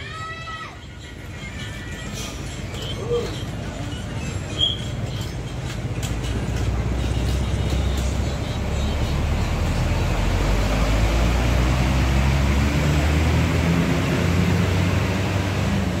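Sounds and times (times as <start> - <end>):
road noise: 0.0 - 16.0
bus diesel engine drone: 2.1 - 16.0.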